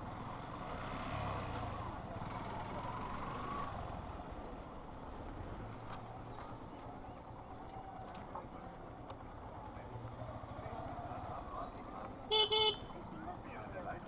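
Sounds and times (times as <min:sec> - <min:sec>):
motorcycle engine and road rumble: 0:00.0 - 0:07.2, 0:07.9 - 0:14.0
surrounding traffic: 0:00.0 - 0:14.0.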